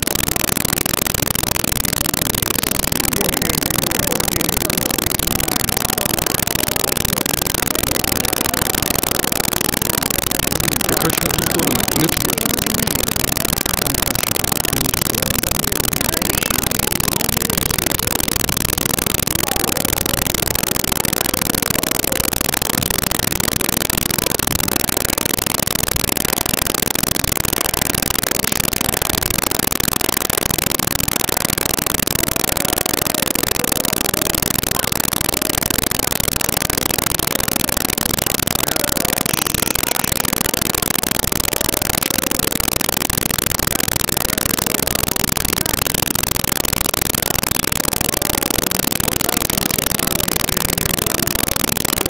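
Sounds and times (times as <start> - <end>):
loud static hiss: 0.0 - 52.0.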